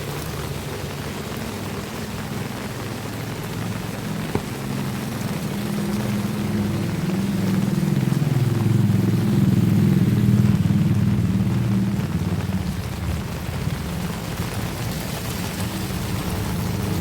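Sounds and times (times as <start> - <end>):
heavy rain: 0.0 - 17.0
vehicle engine running at low revs: 0.0 - 17.0.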